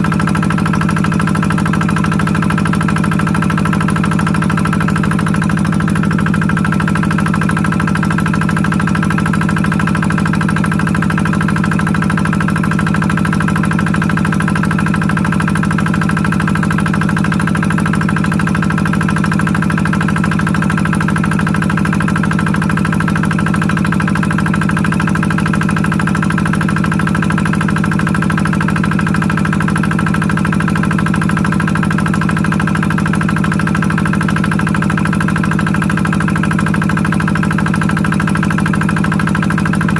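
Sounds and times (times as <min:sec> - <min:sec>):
engine-driven water pump running: 0:00.0 - 0:39.9.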